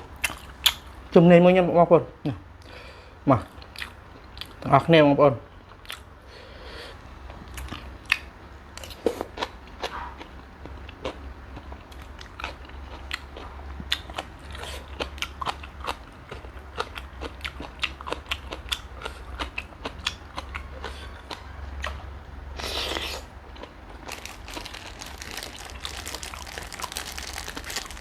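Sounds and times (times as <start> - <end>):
person chewing and crunching: 0.0 - 1.0, 3.4 - 4.7, 5.6 - 6.1, 7.2 - 28.0.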